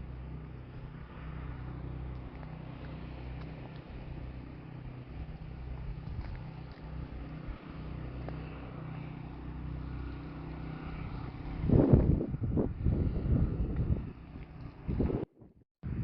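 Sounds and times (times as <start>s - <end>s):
loud low rumbling bursts: 0.0s - 16.0s
vehicle engine at low revs: 0.0s - 16.0s.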